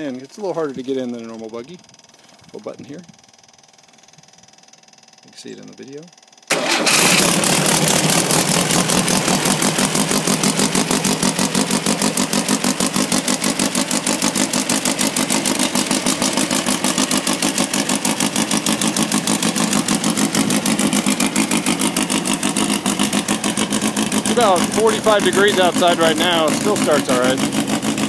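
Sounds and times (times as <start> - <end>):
buggy engine idling: 0.0 - 28.0.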